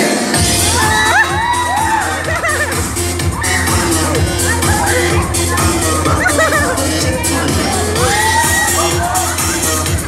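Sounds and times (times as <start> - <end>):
loud dance music: 0.0 - 10.0
crowd shouting: 0.6 - 10.0.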